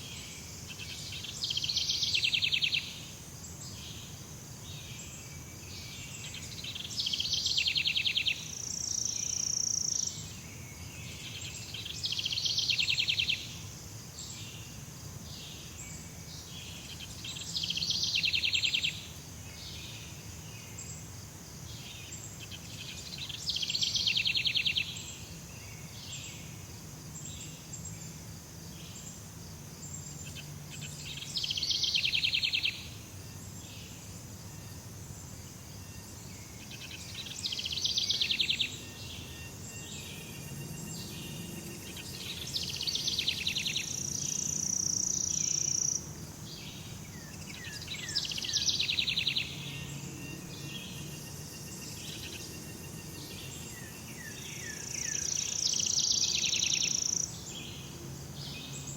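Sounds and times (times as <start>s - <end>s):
insect drone: 0.0s - 58.9s.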